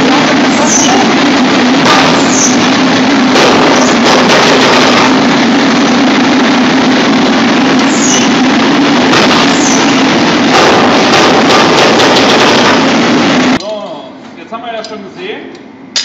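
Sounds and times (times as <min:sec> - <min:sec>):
low hum: 0:00.0 - 0:14.3
machinery droning: 0:00.0 - 0:16.0.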